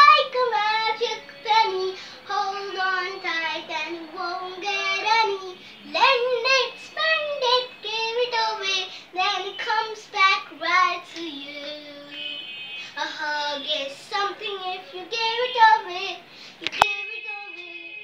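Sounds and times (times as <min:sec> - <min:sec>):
girl singing: 0:00.0 - 0:12.3, 0:12.9 - 0:18.0.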